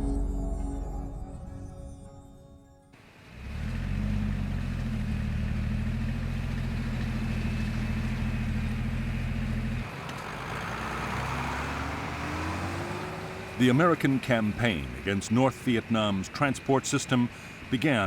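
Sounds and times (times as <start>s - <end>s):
engine running with low drone: 3.0s - 18.0s.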